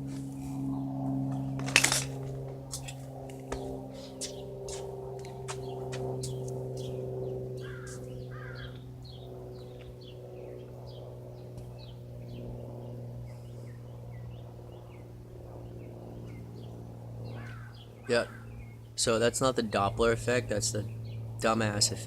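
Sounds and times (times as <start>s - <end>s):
birds chirping: 0.0s - 22.0s
propeller plane droning overhead: 0.0s - 22.0s.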